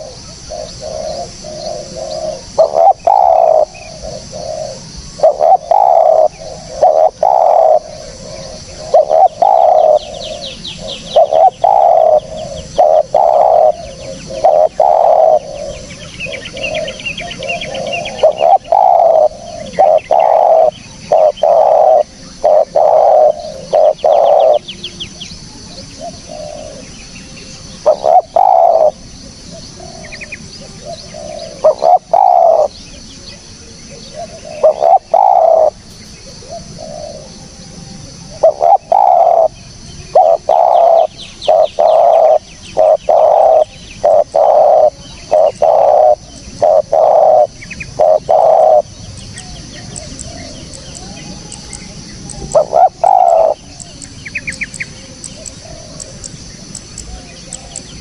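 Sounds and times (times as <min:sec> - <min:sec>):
dove cooing: 0:00.0 - 0:58.0
small birds twittering: 0:00.0 - 0:58.0.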